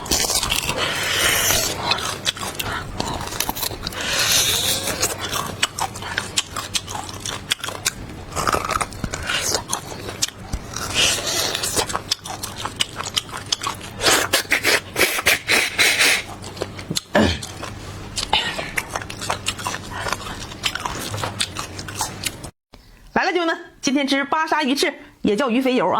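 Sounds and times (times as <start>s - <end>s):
chewing with sharp crunches: 0.0s - 22.6s.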